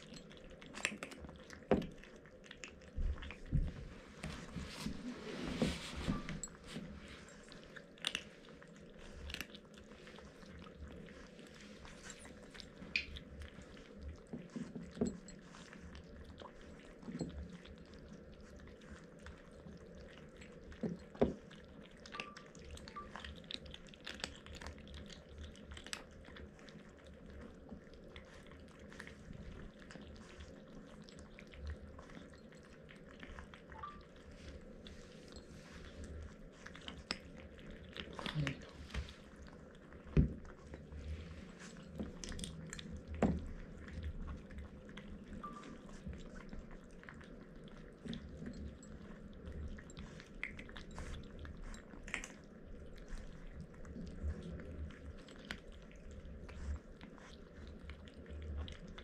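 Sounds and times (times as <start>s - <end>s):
kittens crunching dry kibble: 0.0s - 59.0s.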